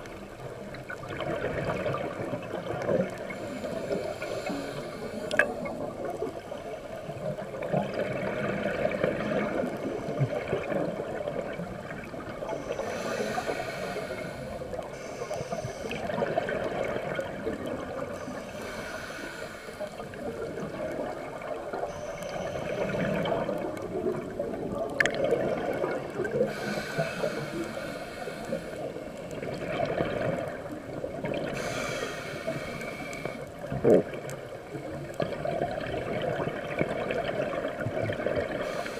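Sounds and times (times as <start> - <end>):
steady underwater hiss: 0.0 - 38.9.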